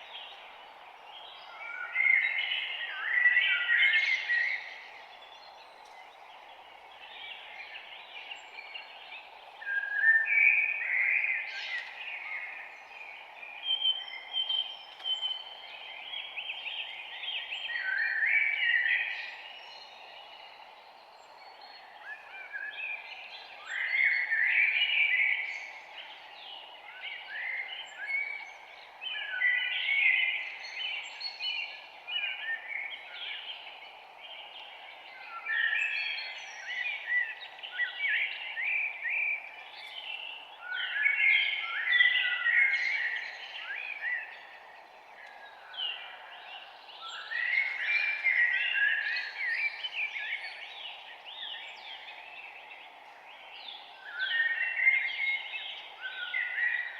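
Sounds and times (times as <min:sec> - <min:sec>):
songbirds singing and chirping: 0:00.0 - 0:56.9
steady background hiss: 0:00.0 - 0:56.9.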